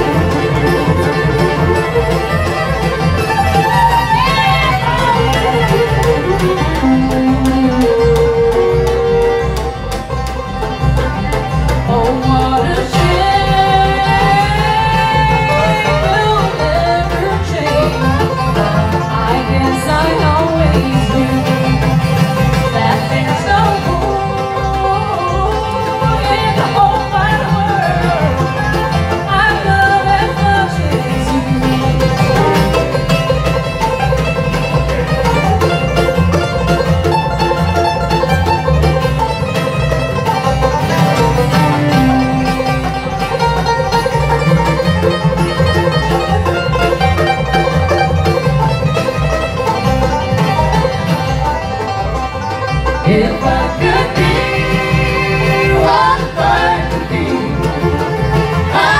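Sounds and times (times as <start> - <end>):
banjo: 0.0 - 58.9
bluegrass band playing: 0.0 - 58.9
fiddle: 0.0 - 58.9
upright bass: 0.0 - 58.9.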